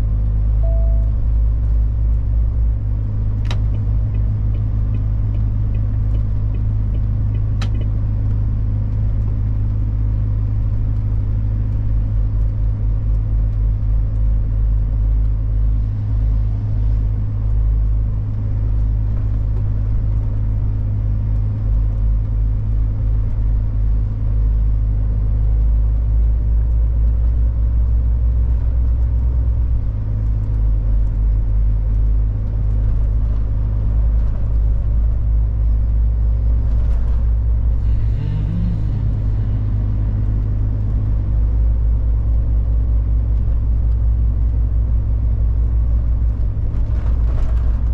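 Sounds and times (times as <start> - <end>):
diesel truck engine rumbling: 0.0 - 47.9.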